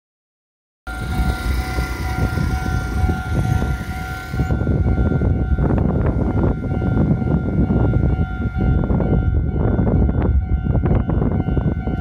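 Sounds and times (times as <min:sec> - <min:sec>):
heavy low rumble: 0:00.9 - 0:12.0.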